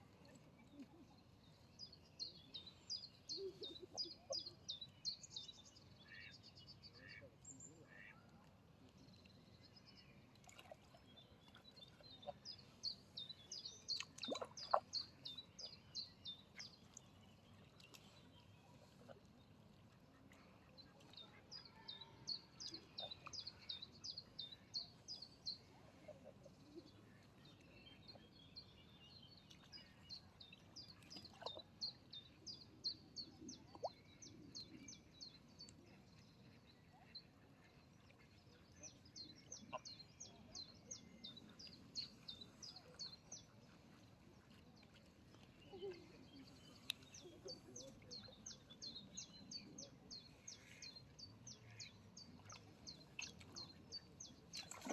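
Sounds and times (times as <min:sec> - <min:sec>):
faint outdoor ambience: 0:00.0 - 0:54.9.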